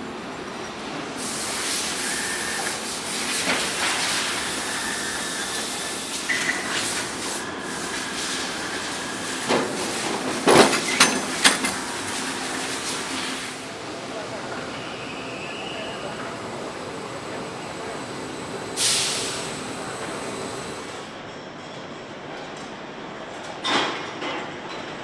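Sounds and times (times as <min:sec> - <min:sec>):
machinery hiss with faint whine: 0:00.6 - 0:21.2.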